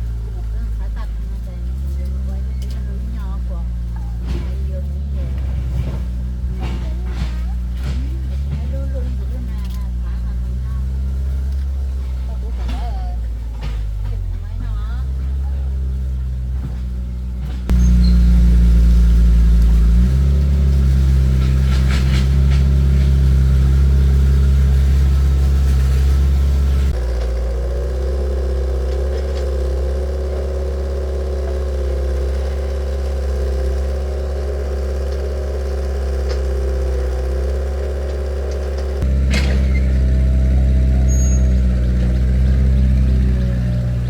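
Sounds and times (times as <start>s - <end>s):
heavy machine engine running: 0.0s - 44.0s.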